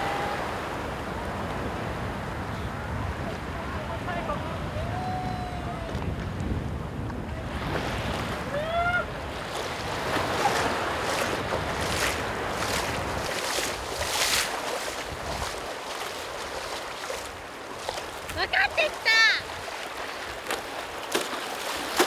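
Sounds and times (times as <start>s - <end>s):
wind on microphone: 0.0s - 20.4s
surf rushing: 0.0s - 22.0s.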